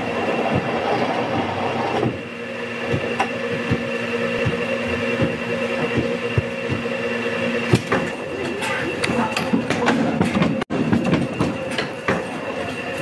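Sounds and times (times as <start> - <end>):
paper guillotine machine hum: 0.0 - 13.0
knocks and thumps of paper stacks: 0.4 - 6.9, 7.7 - 8.2, 9.1 - 12.5.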